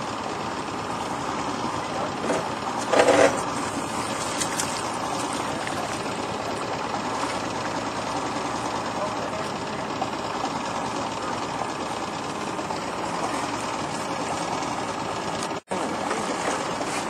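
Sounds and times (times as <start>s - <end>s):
boat motor idling: 0.0s - 17.0s.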